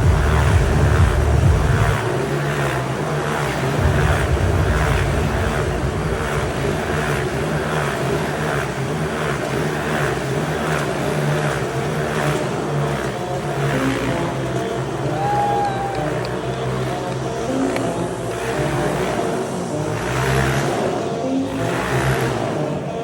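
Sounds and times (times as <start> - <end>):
motorcycle engines running hard: 0.0 - 23.0.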